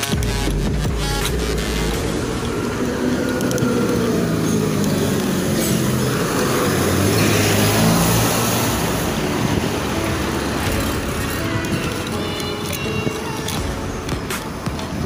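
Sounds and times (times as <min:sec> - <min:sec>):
bus passing close: 0:00.0 - 0:15.0
road noise: 0:00.0 - 0:15.0
wind rush: 0:02.0 - 0:15.0.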